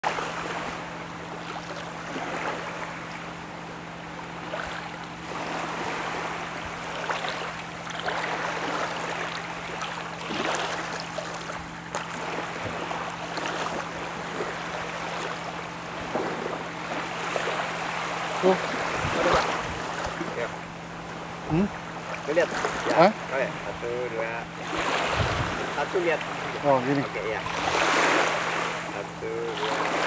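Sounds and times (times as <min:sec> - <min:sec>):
rushing outdoor noise: 0:00.0 - 0:30.0.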